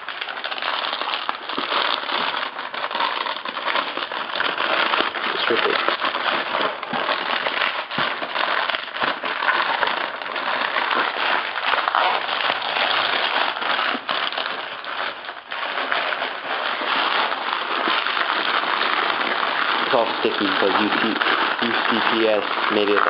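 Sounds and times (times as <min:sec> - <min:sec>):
plastic wrap and tape crinkling: 0:00.0 - 0:23.0.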